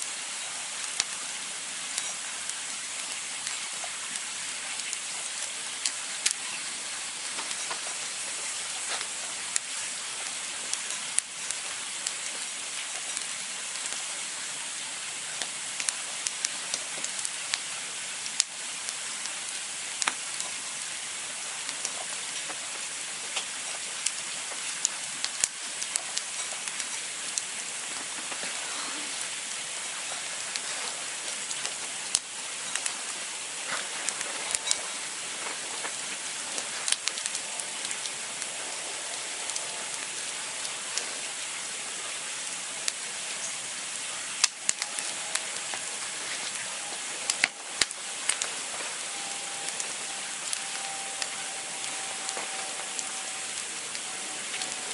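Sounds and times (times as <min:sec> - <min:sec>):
campfire crackling and hissing: 0:00.0 - 0:54.9.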